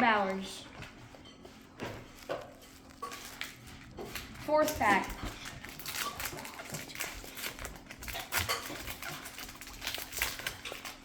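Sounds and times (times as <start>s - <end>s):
plastic wrapper crinkling and tearing: 2.1s - 11.0s.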